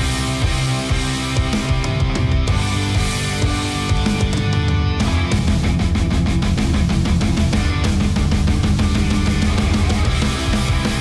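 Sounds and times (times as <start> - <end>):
rock music with guitar and drums: 0.0 - 11.0.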